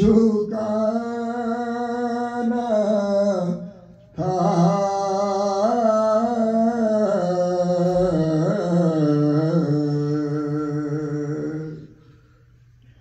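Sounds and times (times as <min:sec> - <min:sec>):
man singing an elegy: 0:00.0 - 0:12.0.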